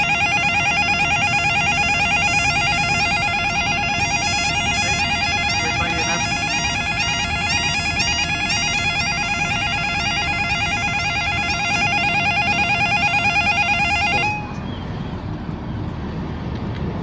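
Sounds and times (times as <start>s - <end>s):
level crossing warning alarm: 0.0s - 15.0s.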